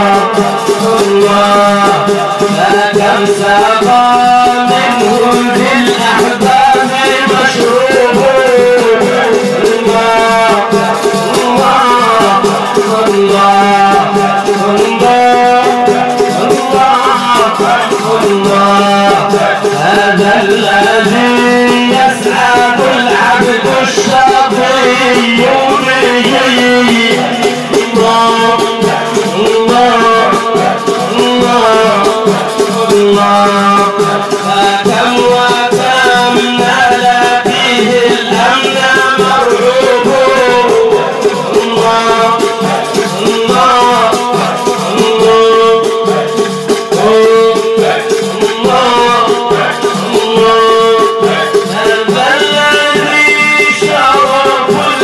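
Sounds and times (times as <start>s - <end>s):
fast jingling percussion: 0.0s - 55.0s.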